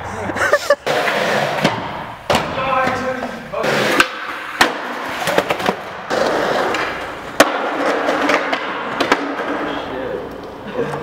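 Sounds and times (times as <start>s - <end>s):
skateboard wheels rolling: 0.8s - 11.0s.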